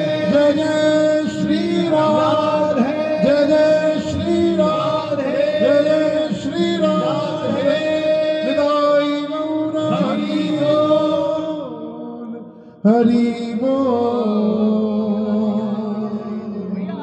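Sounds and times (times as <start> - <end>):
men singing devotional chant: 0.0 - 17.0.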